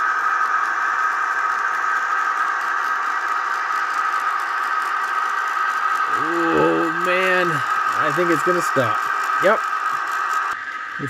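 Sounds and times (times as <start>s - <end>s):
diesel engine sound from small speaker: 0.0s - 11.0s
model train rattling on track: 0.0s - 11.0s.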